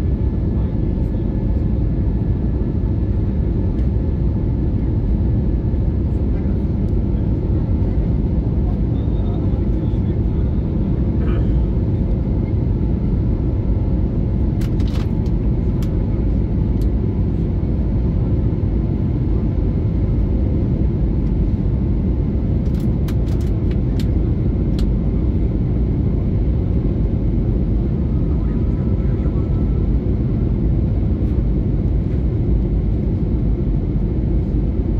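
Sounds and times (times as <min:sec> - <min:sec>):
aircraft cabin engine roar: 0:00.0 - 0:34.9.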